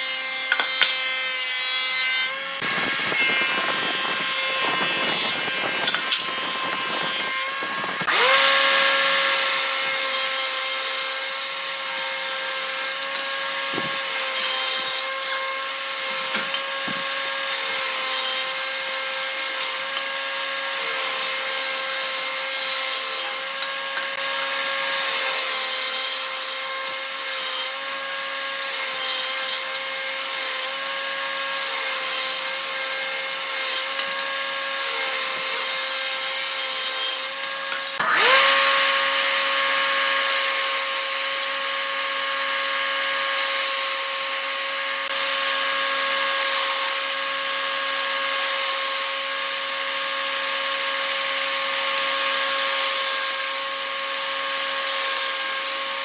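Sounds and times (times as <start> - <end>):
power tool whining: 0.0 - 56.0.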